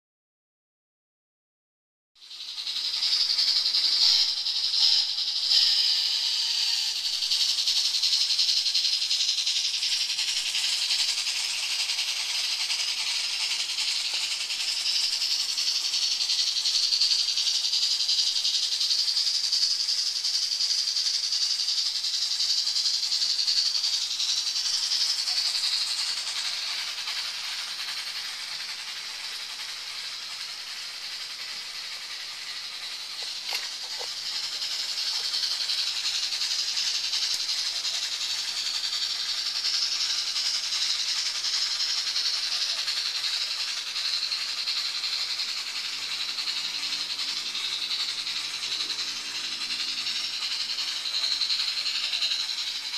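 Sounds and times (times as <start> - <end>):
model trains rattling hiss: 2.2 - 52.9.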